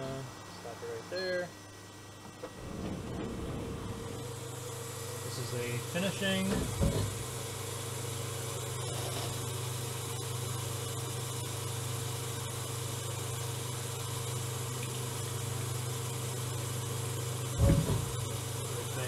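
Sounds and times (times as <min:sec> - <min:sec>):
lathe machine hum: 0:01.6 - 0:19.0.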